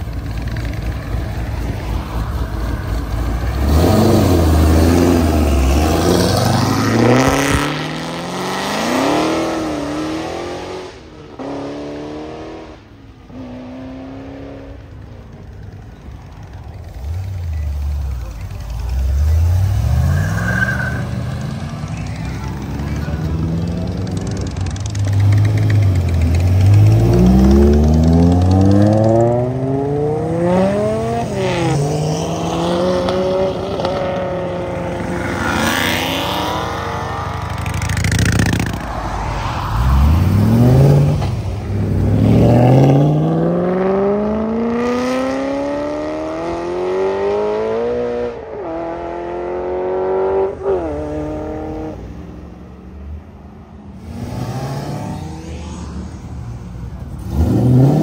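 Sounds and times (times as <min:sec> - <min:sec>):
modified cars accelerating: 0:00.0 - 0:58.0.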